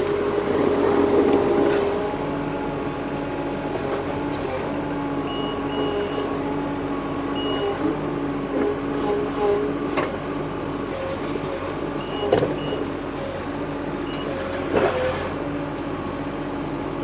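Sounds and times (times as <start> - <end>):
construction machine engine humming: 0.0 - 17.0.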